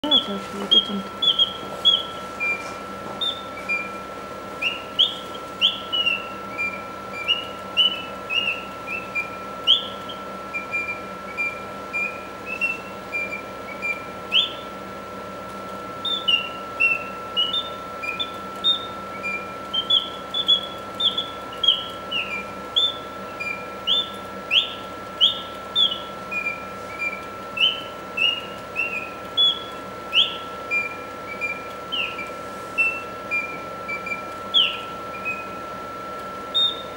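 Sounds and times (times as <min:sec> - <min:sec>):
faint hum: 0:00.0 - 0:36.9
mechanical birdsong whistling: 0:00.0 - 0:36.9.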